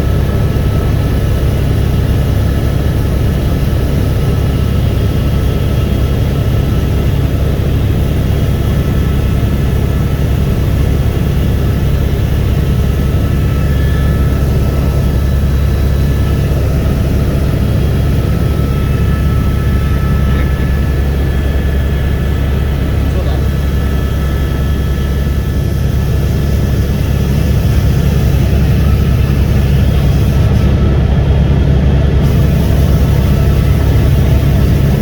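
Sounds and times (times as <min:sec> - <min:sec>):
faint high whine: 0:00.0 - 0:35.0
helicopter rotor and engine drone: 0:00.0 - 0:35.0.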